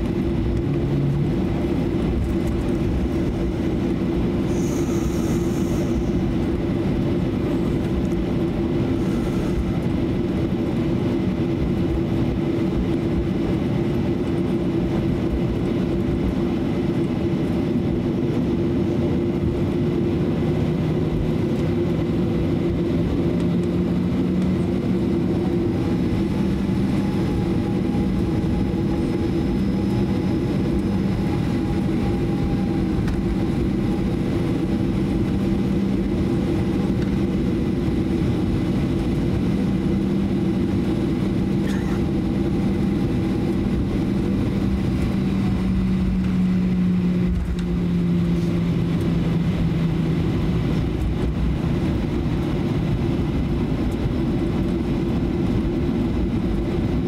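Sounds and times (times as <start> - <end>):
jet engines idling hum: 0.0 - 57.0.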